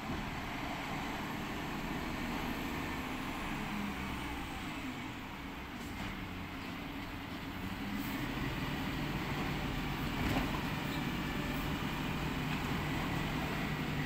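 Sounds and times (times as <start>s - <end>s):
truck engine hum: 0.0s - 14.0s.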